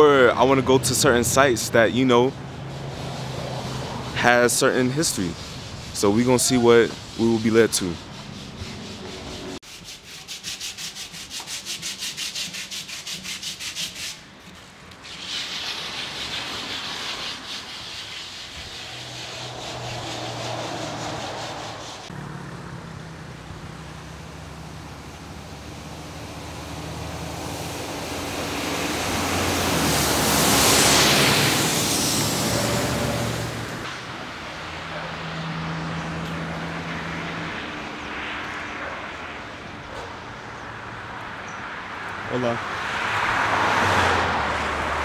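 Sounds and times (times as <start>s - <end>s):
bus passing by: 0.0s - 9.6s, 15.0s - 45.0s
street traffic: 0.0s - 45.0s.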